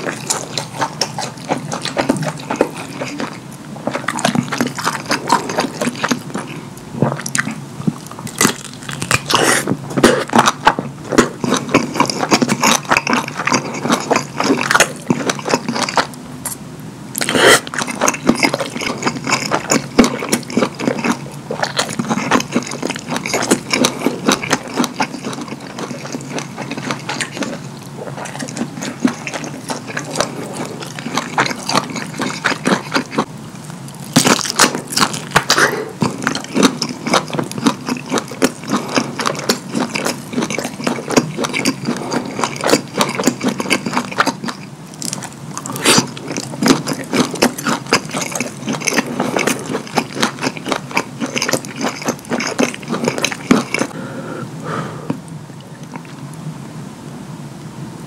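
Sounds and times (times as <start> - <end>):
chewing and lip-smacking: 0.0 - 33.3, 34.0 - 54.0, 55.1 - 56.2.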